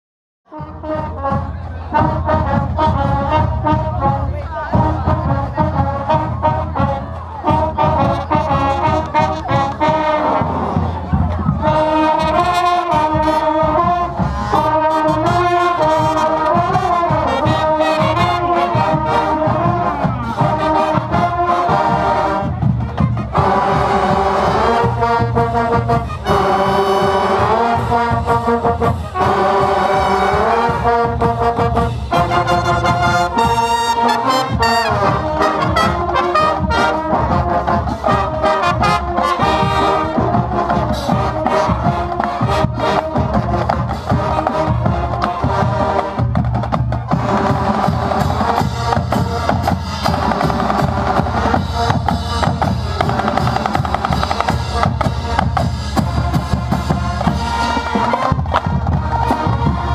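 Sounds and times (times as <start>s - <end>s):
drums keeping a steady beat: 0.5s - 59.9s
marching band brass playing: 0.5s - 59.9s.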